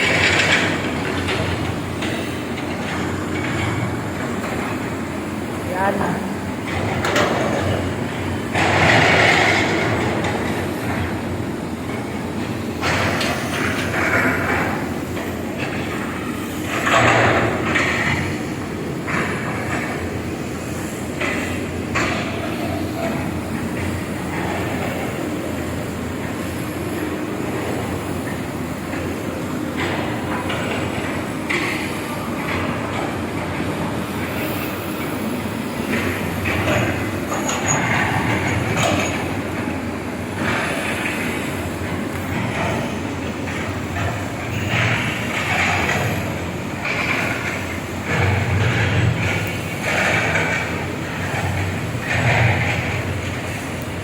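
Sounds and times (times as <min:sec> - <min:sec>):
diesel engines under load: 0:00.0 - 0:54.0.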